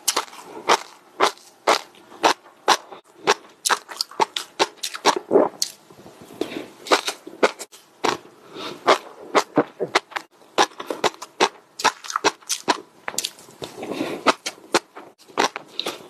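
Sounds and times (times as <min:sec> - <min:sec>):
crisp food chewing crunches: 0:00.0 - 0:05.8, 0:06.8 - 0:16.0.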